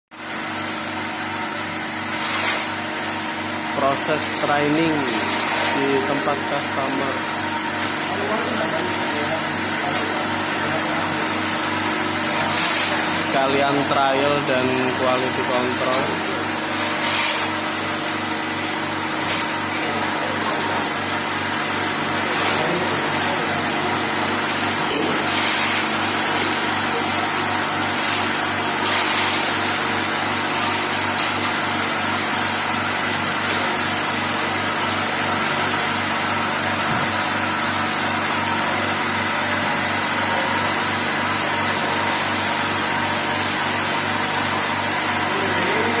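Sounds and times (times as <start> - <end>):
ice machine humming: 0.2 - 46.0.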